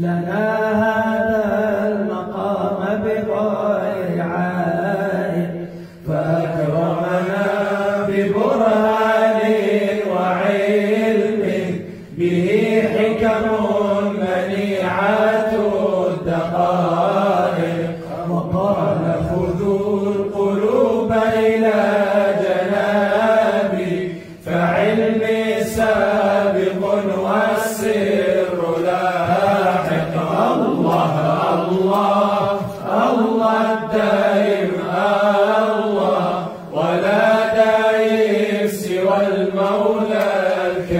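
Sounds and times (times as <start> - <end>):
devotional chanting: 0.0 - 40.9.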